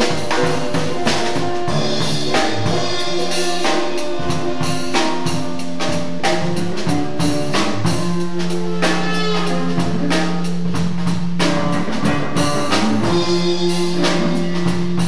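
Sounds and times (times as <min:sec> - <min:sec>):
drum and cymbal strikes: 0:00.0 - 0:15.0
live jazz band playing: 0:00.0 - 0:15.0.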